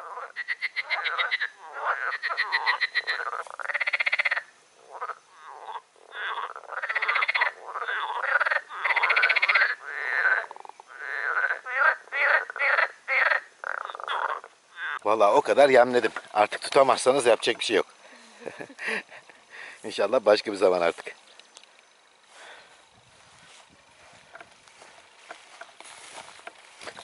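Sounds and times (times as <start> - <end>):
frogs croaking in chorus: 0.0 - 27.0.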